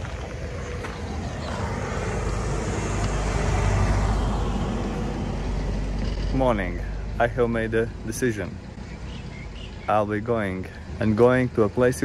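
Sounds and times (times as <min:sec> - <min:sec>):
deep rumble: 0:00.0 - 0:09.9.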